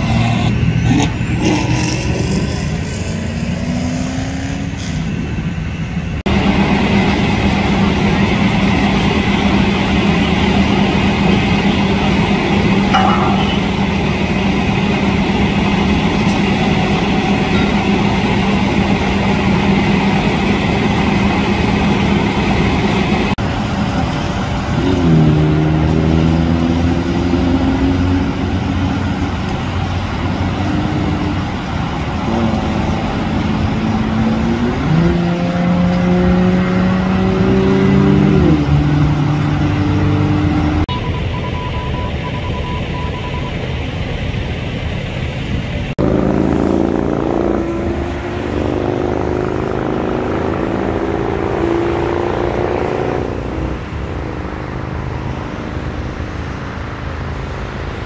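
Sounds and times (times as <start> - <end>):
diesel fire engine running: 0.0 - 58.0
vehicle noise: 0.0 - 58.0.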